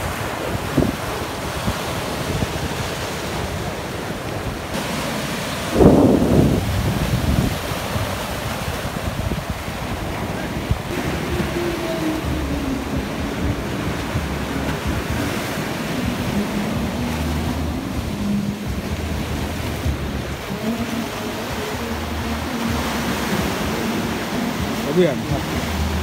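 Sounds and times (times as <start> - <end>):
surf breaking against sea wall: 0.0 - 26.0
wind buffeting microphone: 0.0 - 26.0.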